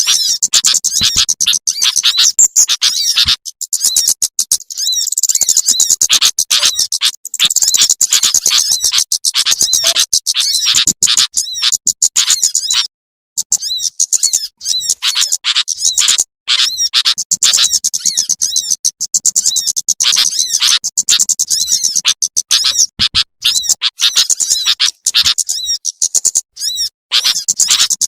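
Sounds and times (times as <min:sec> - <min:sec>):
small birds chirping rapidly: 0:00.0 - 0:28.0.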